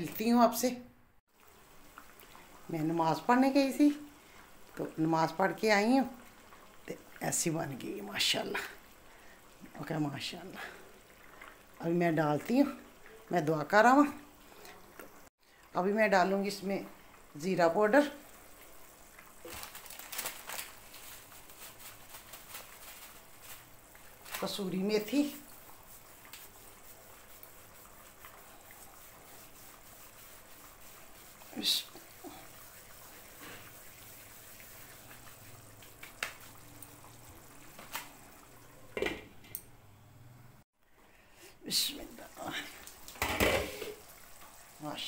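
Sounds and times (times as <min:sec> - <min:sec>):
gravy bubbling and crackling: 0:01.3 - 0:39.5, 0:42.0 - 0:45.0.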